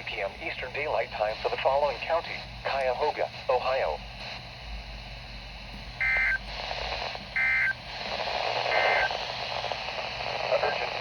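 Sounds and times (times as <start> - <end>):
faint radio hiss: 0.0 - 11.0.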